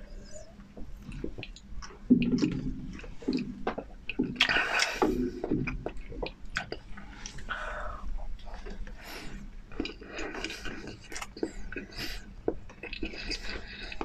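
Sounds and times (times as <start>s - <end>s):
wet squishy chewing: 0.2s - 14.0s.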